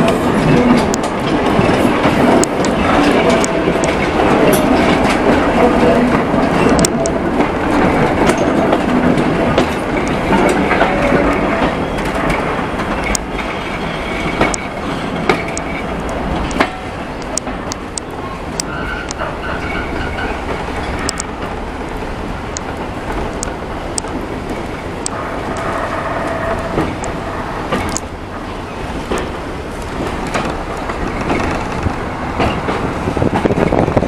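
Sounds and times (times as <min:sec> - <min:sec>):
wheels clicking over rail joints: 0:00.0 - 0:34.0
wheels rumbling on rail: 0:00.0 - 0:34.0.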